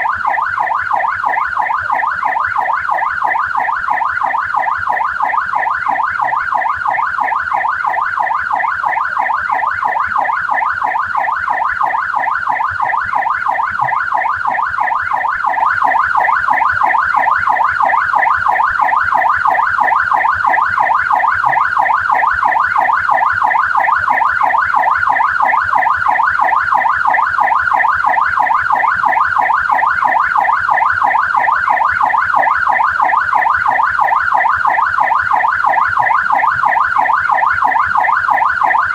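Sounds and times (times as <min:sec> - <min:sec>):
police siren yelping: 0:00.0 - 0:38.9.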